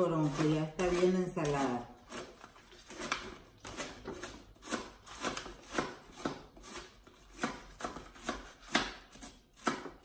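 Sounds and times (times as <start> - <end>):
knives cutting on a cutting board: 0.0 - 10.0.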